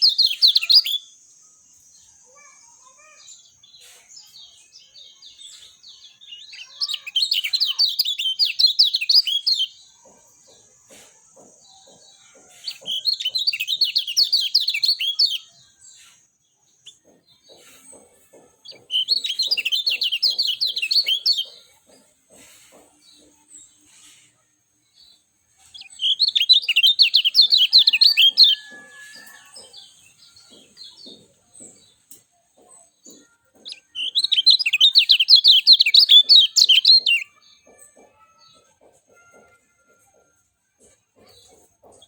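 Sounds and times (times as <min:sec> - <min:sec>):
bird twittering chirps: 0:00.0 - 0:24.2, 0:24.9 - 0:38.7.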